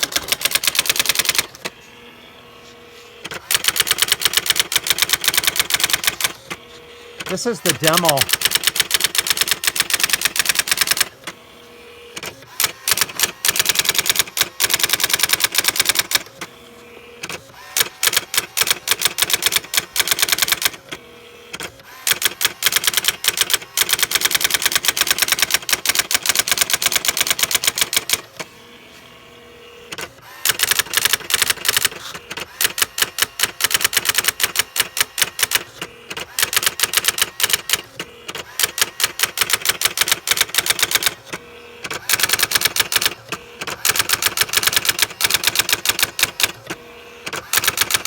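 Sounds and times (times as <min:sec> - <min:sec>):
electronic typewriter printing: 0:00.0 - 0:01.7, 0:03.2 - 0:11.4, 0:12.1 - 0:16.5, 0:17.2 - 0:28.5, 0:29.8 - 0:48.0.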